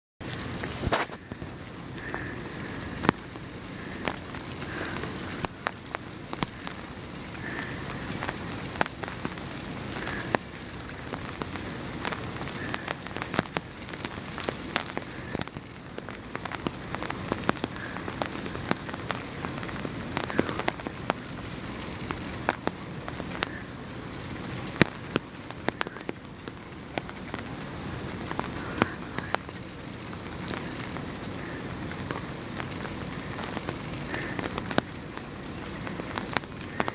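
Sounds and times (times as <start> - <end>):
raindrops tapping close by: 0.2 - 36.9
steady rain: 0.2 - 36.9.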